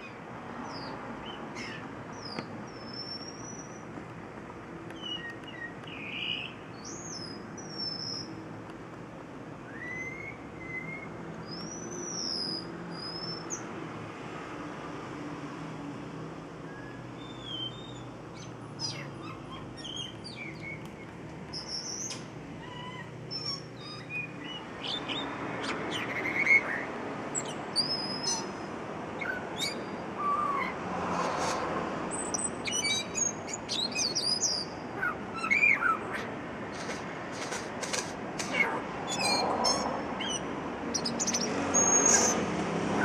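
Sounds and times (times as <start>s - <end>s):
birds chirping and whistling: 0.0s - 3.9s, 4.9s - 8.4s, 9.6s - 13.7s, 16.7s - 37.0s, 38.4s - 42.4s.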